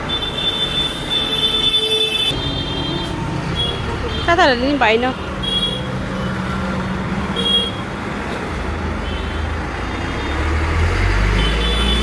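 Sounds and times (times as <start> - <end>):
bus engine rumbling: 0.0 - 12.0
passing road traffic: 0.0 - 12.0.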